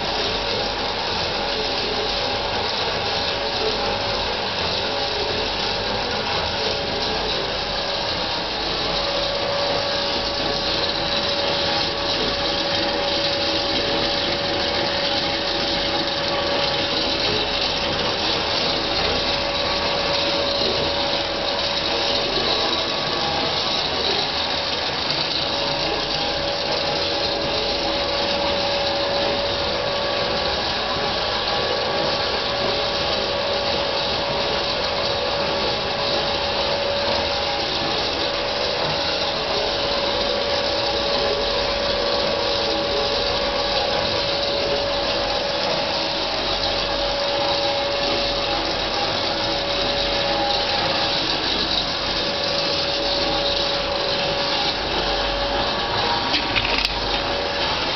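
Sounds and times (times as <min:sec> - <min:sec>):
jaw crusher running: 0:00.0 - 0:57.9.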